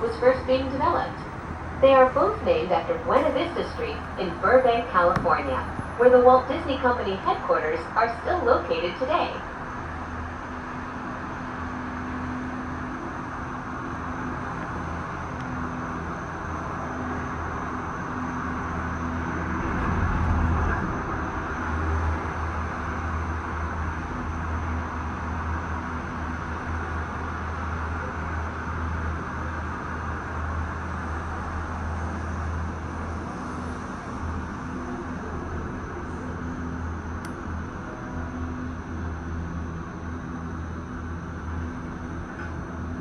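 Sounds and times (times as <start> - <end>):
gondola cabin hum and hiss: 0.0 - 43.0.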